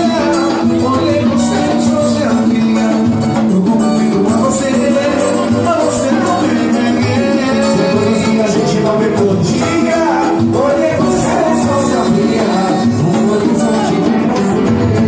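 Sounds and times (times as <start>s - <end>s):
latin american music: 0.0s - 15.0s
person singing: 0.0s - 15.0s.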